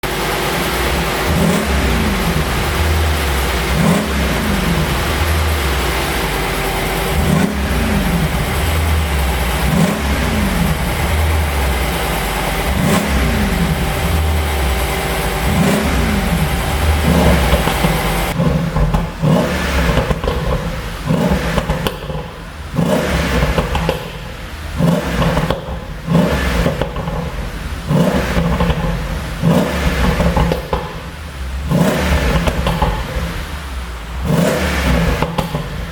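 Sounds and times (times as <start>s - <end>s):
car engine revving: 0.0s - 35.9s
exhaust pops and crackles: 0.0s - 35.9s.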